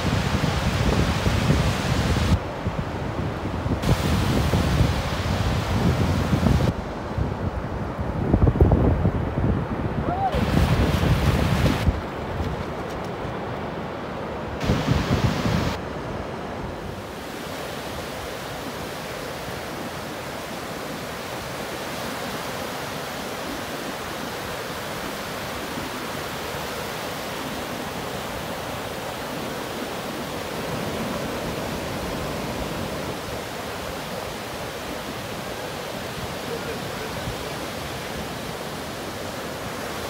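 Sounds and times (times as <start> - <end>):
ocean surf breaking on beach: 0.0 - 40.0.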